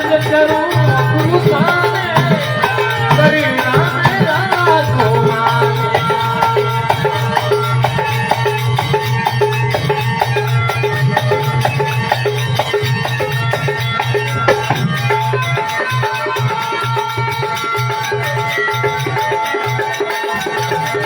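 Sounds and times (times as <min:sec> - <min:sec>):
hand drum beat: 0:00.0 - 0:21.0
sustained melody instrument: 0:00.0 - 0:21.0.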